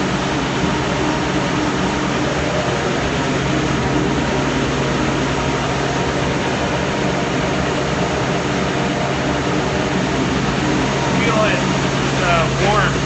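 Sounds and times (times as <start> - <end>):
industrial sander sanding wood: 0.0 - 13.0.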